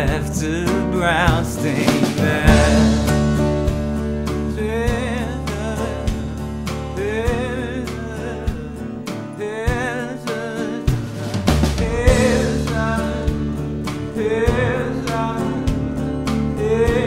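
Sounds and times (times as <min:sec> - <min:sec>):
drum kit beat: 0:00.0 - 0:09.0, 0:09.7 - 0:17.0
sustained bass: 0:00.0 - 0:09.0, 0:10.8 - 0:17.0.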